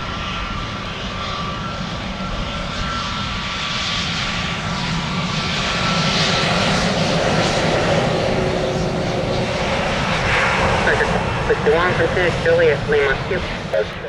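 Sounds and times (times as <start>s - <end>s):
jet airliner engines roaring: 0.0s - 14.0s.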